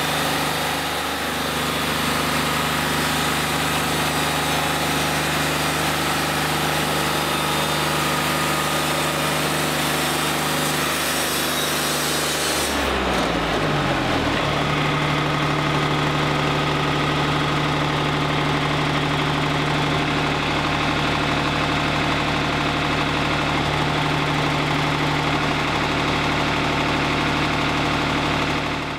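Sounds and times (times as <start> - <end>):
sawmill engine running: 0.0 - 28.9.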